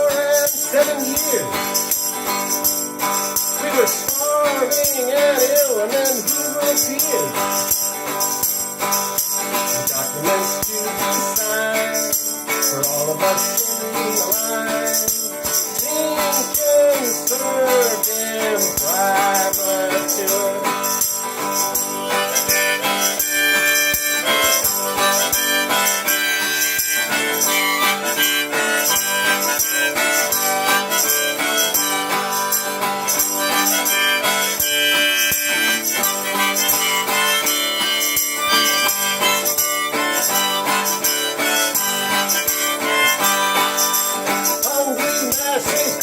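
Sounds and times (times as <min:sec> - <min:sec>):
instrumental music with held notes: 0:00.0 - 0:46.0.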